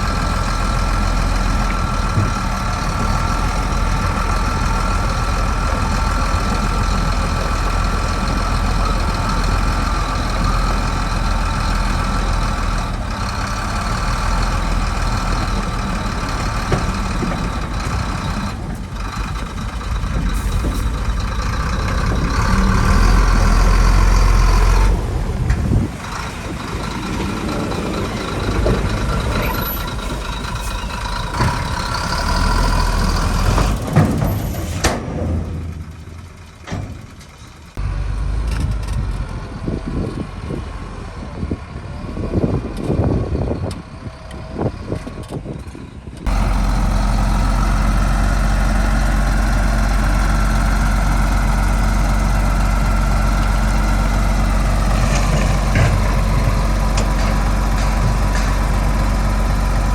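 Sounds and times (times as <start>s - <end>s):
diesel machinery engine under load: 0.0s - 59.9s.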